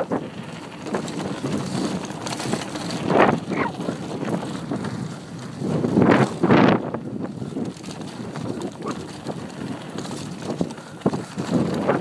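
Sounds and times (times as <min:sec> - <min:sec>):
bike rattling: 0:00.0 - 0:12.0
tyres rolling over dirt: 0:00.0 - 0:12.0
wind buffeting microphone: 0:00.0 - 0:12.0.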